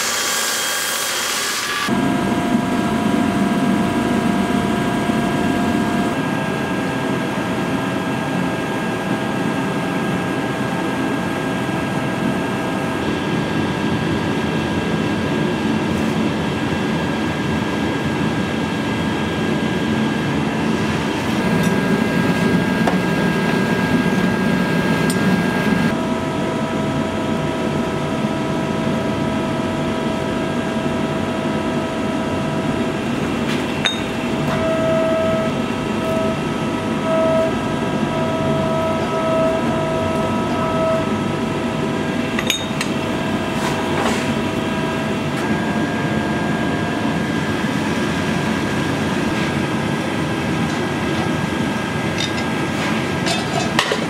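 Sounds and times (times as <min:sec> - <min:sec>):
machinery roar: 0:01.7 - 0:54.0
constant hum: 0:01.8 - 0:54.0.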